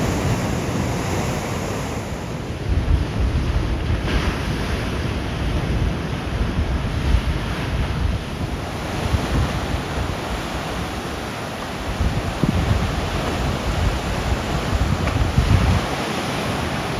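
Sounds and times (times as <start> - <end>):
surf washing on shore: 0.0 - 16.9
wind buffeting microphone: 0.0 - 16.9.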